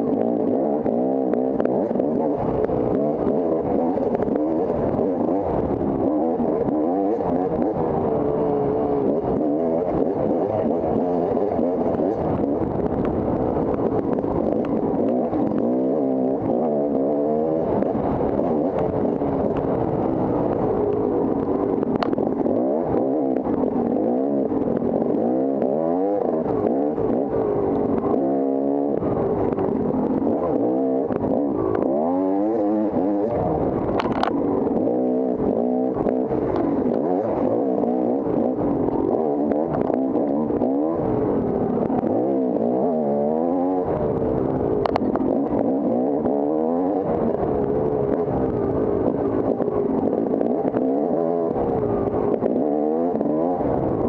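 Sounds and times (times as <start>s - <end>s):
dirt bike engine revving: 0.0s - 54.0s
sharp clicks and clatter: 0.0s - 54.0s.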